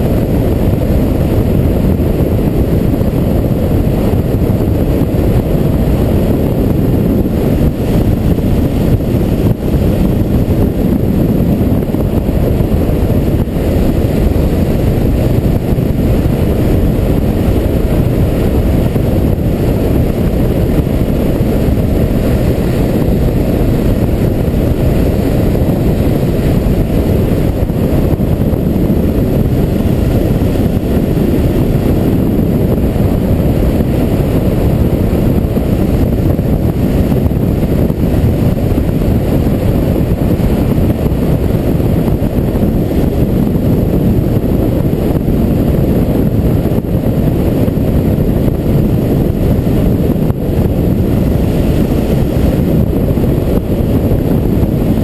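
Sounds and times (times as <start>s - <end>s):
motorcycle engine and tyre noise: 0.0s - 55.0s
wind buffeting microphone: 0.0s - 55.0s.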